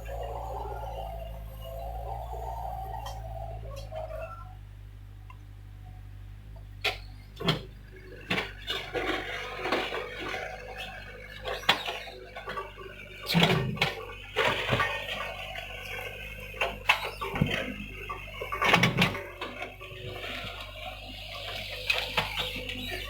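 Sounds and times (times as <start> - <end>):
excavator diesel engine humming: 0.0 - 23.0.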